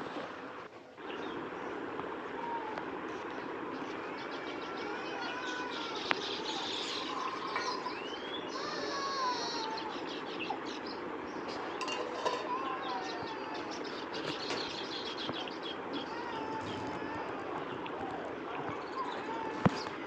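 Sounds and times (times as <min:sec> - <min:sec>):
steady hiss: 0:00.0 - 0:20.0
birds chirping: 0:00.9 - 0:20.0.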